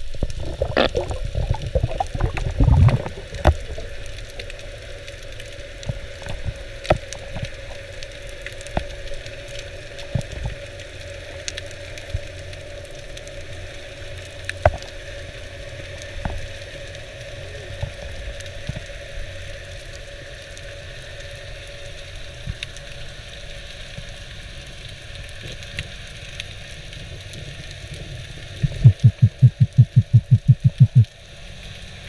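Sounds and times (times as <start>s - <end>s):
small clicks and crackles: 0.0s - 28.9s
faint steady hum: 0.0s - 32.0s
underwater rumble and hiss: 0.0s - 32.0s.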